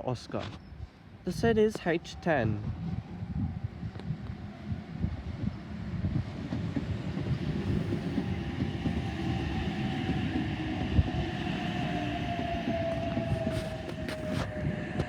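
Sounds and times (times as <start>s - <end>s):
train rumbling: 1.3s - 15.0s.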